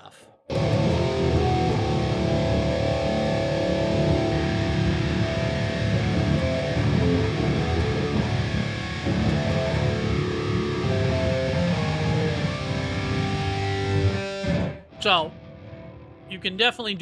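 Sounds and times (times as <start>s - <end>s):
electric guitar chords and riffs: 0.5s - 16.3s.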